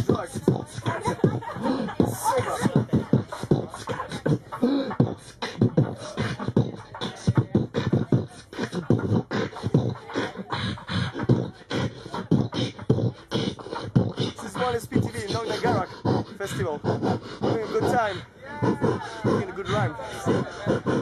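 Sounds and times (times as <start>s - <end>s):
man beatboxing: 0.0s - 21.0s.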